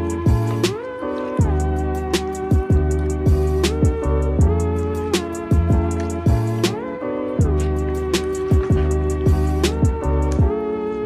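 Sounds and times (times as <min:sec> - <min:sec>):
beat music with hi-hat and kick: 0:00.0 - 0:10.6.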